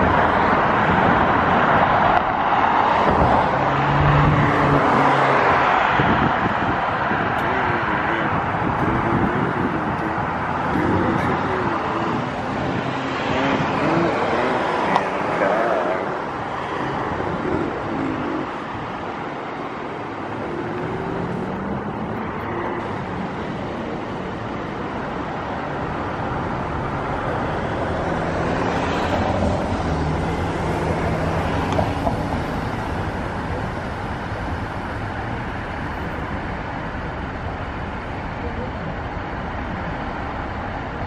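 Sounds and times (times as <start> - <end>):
vehicle passing with engine hum: 0.0 - 36.7
road traffic noise: 0.0 - 41.0.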